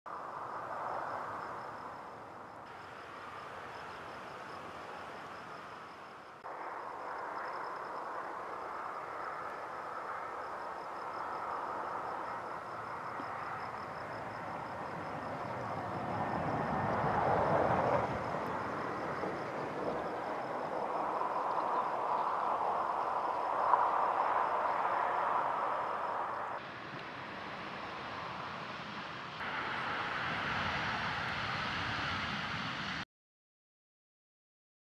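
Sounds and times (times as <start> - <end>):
jet airliner landing roar: 0.1 - 33.0.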